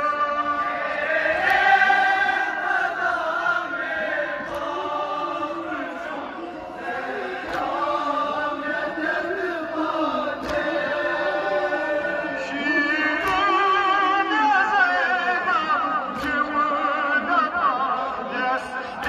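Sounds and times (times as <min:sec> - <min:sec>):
lead voice through loudspeakers: 0:00.0 - 0:19.0
men chanting a lament: 0:00.0 - 0:19.0.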